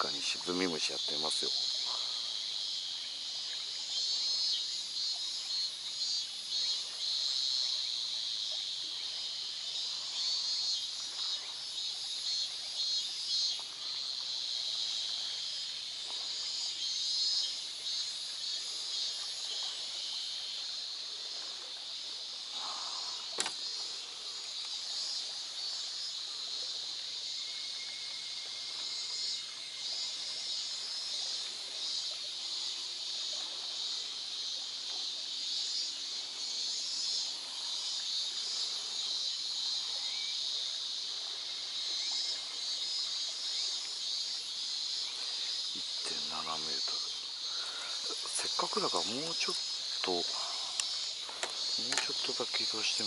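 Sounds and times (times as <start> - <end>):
cicadas pulsing shrill: 0.0 - 53.0.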